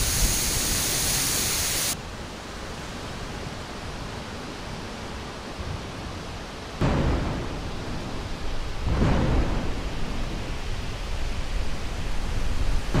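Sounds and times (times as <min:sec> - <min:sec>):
storm wind gusting through trees: 0:00.0 - 0:13.0.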